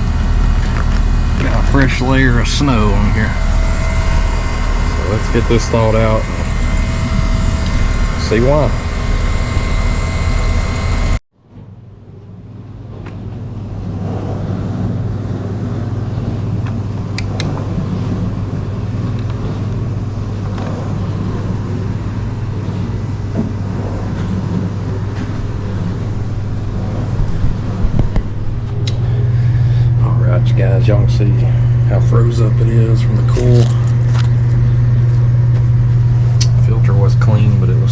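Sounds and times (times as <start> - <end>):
heat pump electrical hum: 0.0 - 37.9.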